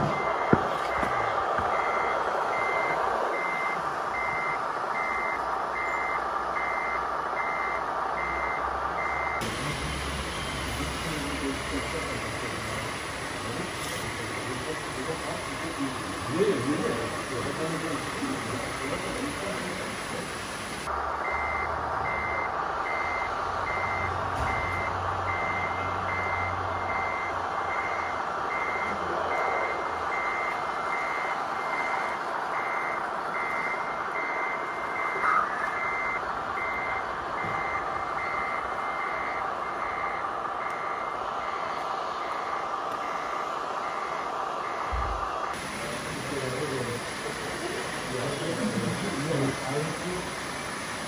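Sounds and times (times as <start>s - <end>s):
reversing beeper: 0.0s - 50.8s
mechanical whine: 0.0s - 51.0s.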